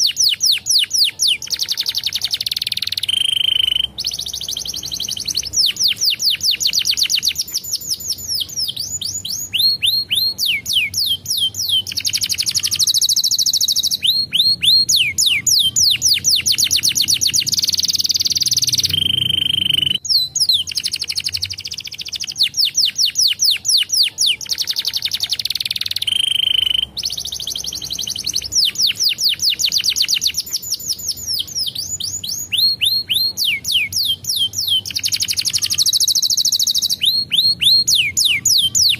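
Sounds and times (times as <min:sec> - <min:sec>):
canary singing trills: 0:00.0 - 0:38.9
canary steady whistle: 0:00.0 - 0:38.9.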